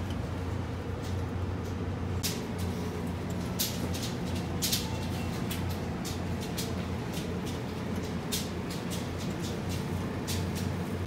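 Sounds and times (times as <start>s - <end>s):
refrigerated display cases humming: 0.0s - 11.0s.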